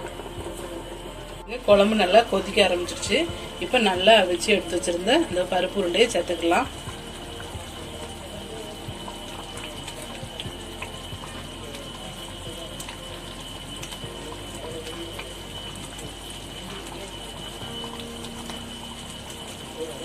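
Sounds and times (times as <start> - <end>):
curry bubbling in a pan: 0.0 - 20.0.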